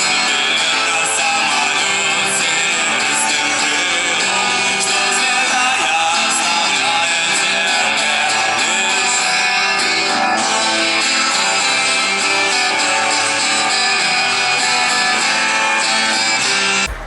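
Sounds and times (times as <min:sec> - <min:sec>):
rock music with strummed guitar: 0:00.0 - 0:17.0.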